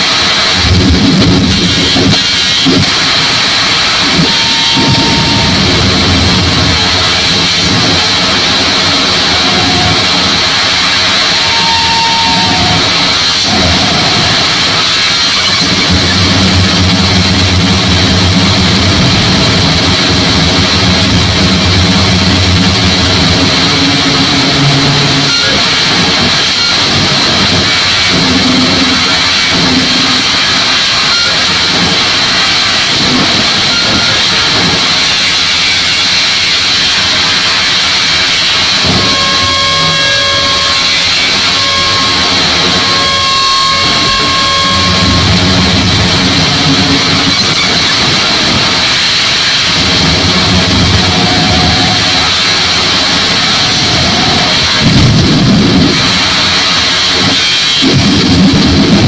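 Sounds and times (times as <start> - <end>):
heavy low drone: 0.0 - 59.0.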